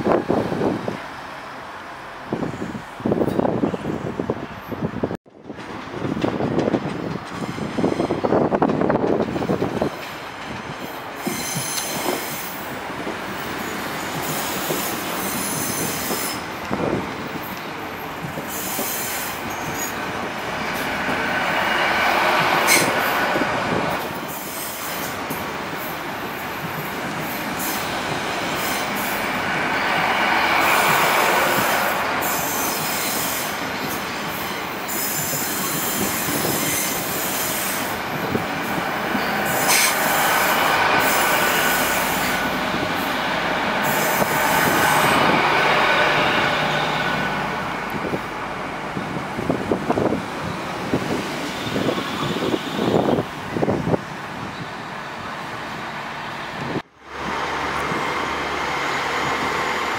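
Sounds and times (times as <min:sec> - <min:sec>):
train coaches rumbling: 0:00.0 - 0:59.9
train wheels squealing on rails: 0:06.2 - 0:48.1, 0:49.9 - 0:56.8.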